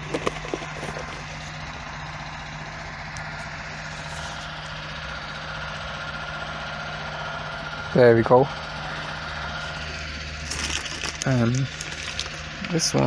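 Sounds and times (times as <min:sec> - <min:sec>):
heavy machinery engine idling: 0:00.0 - 0:13.0.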